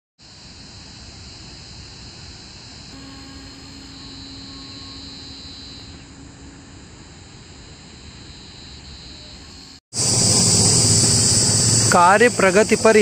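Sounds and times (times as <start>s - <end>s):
low even hum: 0.3s - 12.9s.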